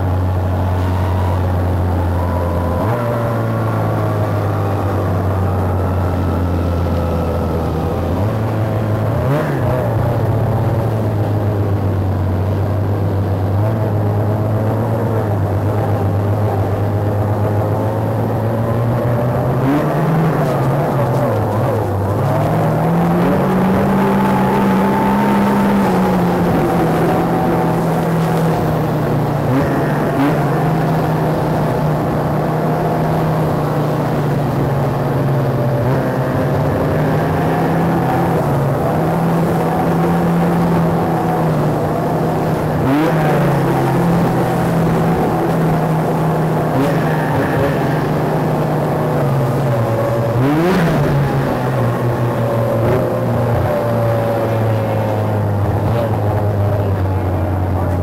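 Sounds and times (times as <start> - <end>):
engine throttle blips: 0.0 - 58.0
snowmobile engines idling: 0.0 - 58.0.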